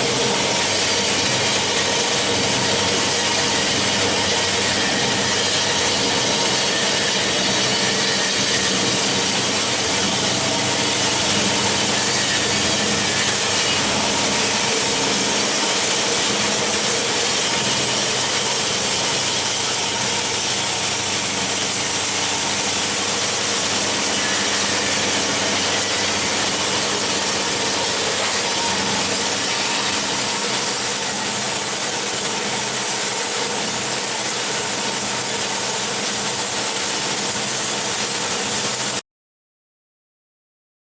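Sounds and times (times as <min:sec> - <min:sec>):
steady motor hum: 0:00.0 - 0:39.0.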